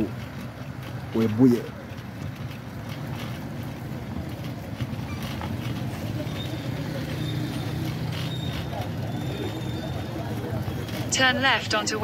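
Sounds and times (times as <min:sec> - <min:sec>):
distant town traffic hum: 0:00.0 - 0:12.0.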